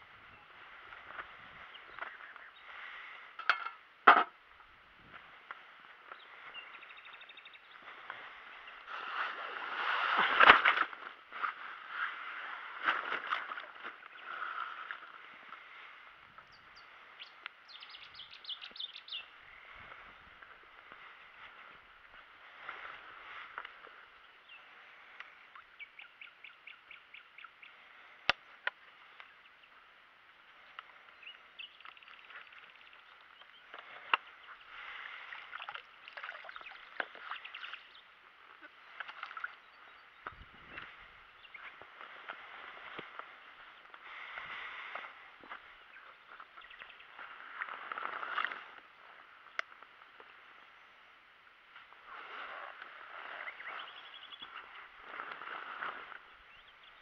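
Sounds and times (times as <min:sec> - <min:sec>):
songbirds singing and trilling: 0:00.0 - 0:03.9, 0:05.0 - 0:09.3, 0:13.0 - 0:51.0, 0:51.8 - 0:57.0.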